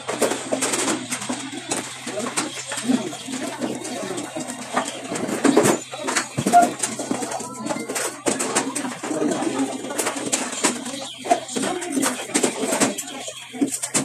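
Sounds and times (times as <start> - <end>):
murmur of voices: 0.0 - 14.0.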